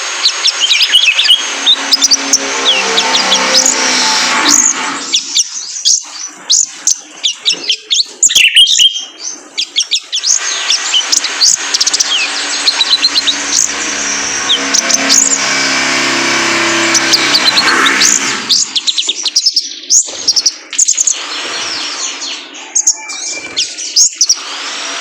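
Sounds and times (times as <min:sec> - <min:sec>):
bird song high chirps: 0:00.0 - 0:03.8, 0:04.5 - 0:24.4.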